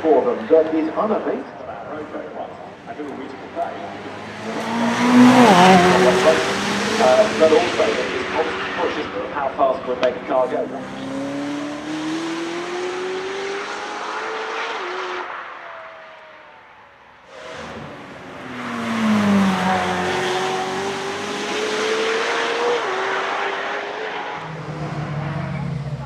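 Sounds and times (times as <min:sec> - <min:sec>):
car engine accelerating and upshifting: 0:00.0 - 0:26.0.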